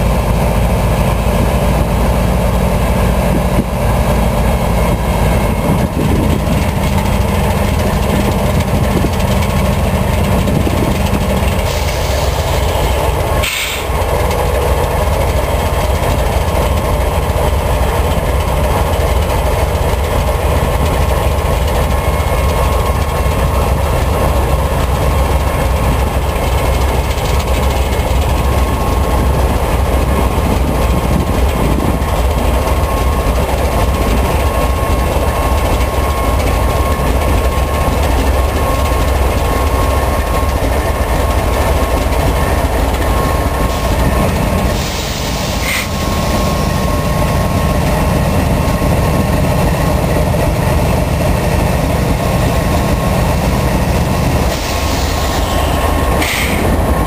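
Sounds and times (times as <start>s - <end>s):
diesel locomotives rumbling: 0.0s - 57.0s.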